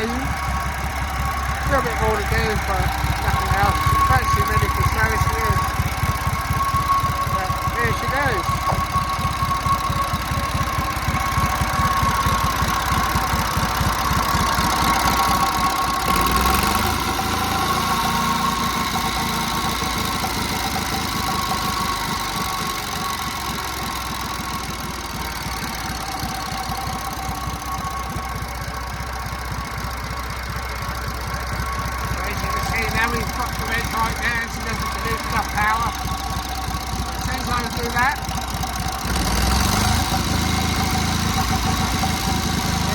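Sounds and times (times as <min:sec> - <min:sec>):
stationary engine running: 0:00.0 - 0:42.9.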